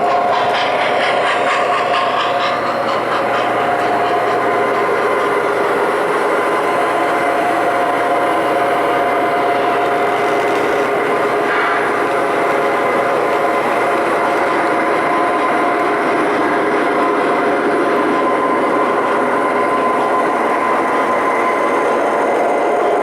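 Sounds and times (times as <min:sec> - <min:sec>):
constant tonal hum: 0:00.0 - 0:23.0
model train rolling rumble: 0:00.0 - 0:23.0.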